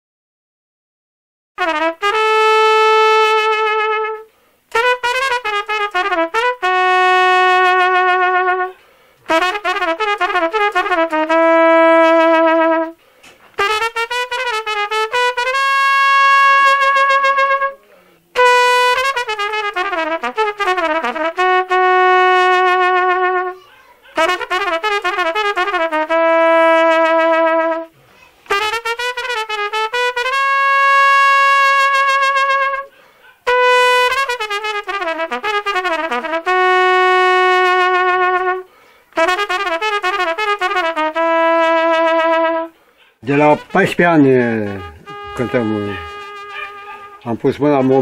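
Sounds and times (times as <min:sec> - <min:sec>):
brass instrument melody: 0:01.6 - 0:48.0.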